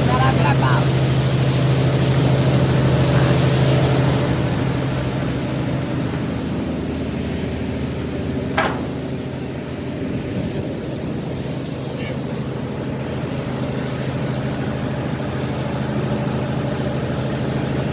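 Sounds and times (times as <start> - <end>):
boat engine droning: 0.0 - 17.9.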